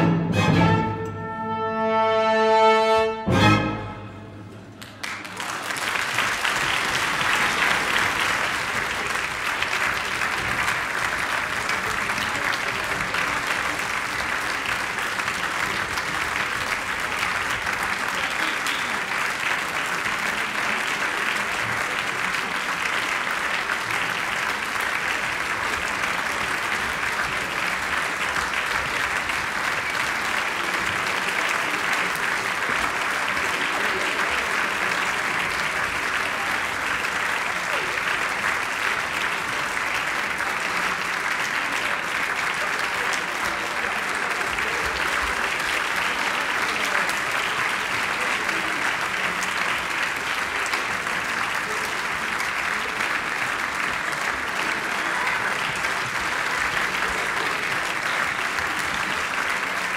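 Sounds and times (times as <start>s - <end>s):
audience applauding: 4.5s - 59.9s.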